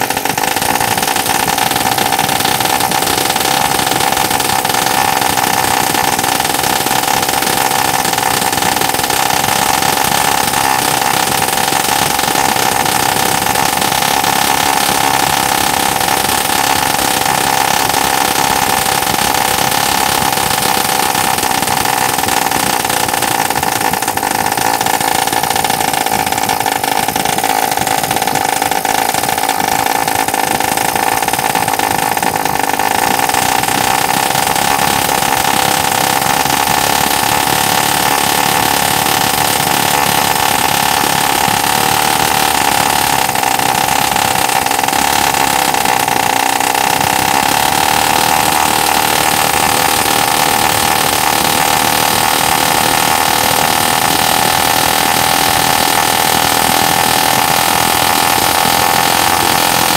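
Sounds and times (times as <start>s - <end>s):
small two-stroke engine buzzing: 0.0s - 59.9s.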